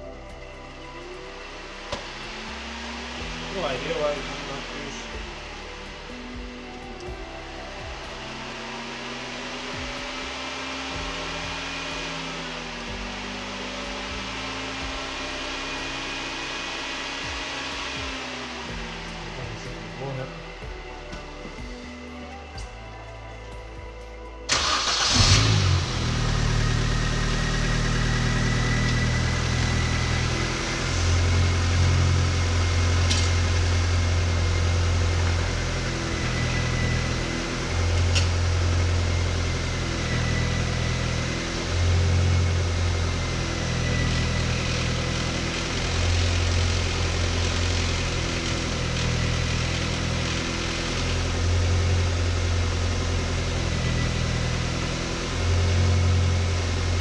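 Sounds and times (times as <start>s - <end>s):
thin steady whine: 0.0s - 24.6s, 26.2s - 57.0s
car engine idling: 0.0s - 57.0s.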